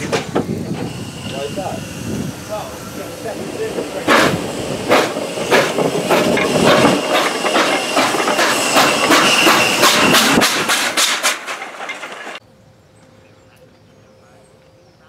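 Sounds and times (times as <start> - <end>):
steam hiss: 0.0 - 12.3
steam locomotive exhaust beats: 0.0 - 12.4.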